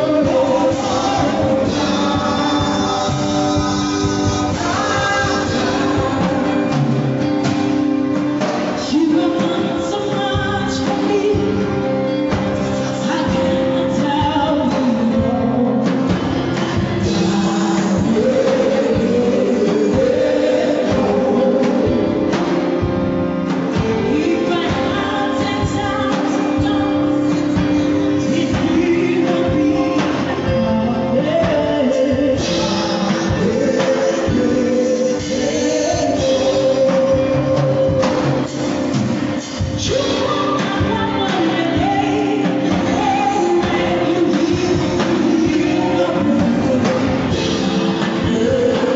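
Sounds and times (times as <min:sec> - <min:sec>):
upbeat gospel song: 0:00.0 - 0:48.9.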